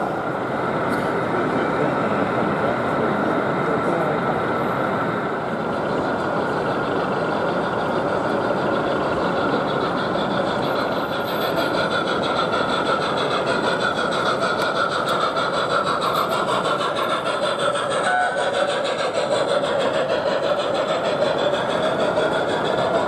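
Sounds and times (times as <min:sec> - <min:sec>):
model train running: 0:00.0 - 0:23.0.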